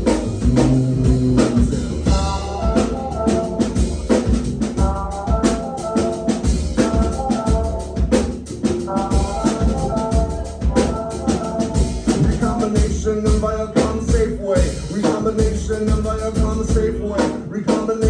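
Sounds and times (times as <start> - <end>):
drum kit beat: 0.0 - 18.0
rock band playing: 0.0 - 18.0.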